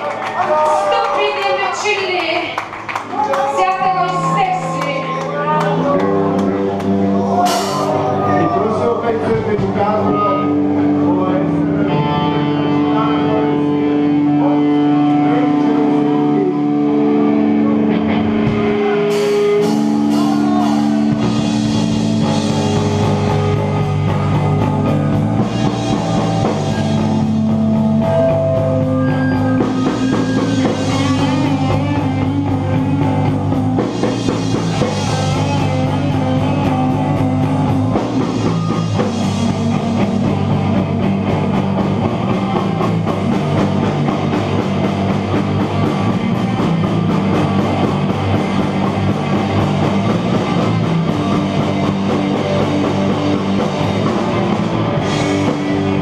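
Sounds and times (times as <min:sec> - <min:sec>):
punk band playing live: 0:00.0 - 0:56.0.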